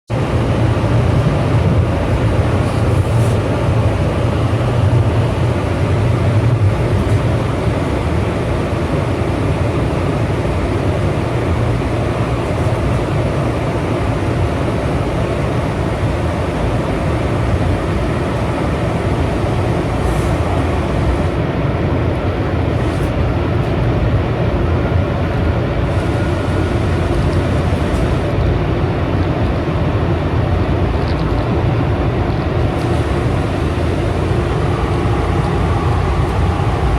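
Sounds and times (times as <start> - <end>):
rumble of train wheels: 0.1 - 36.9.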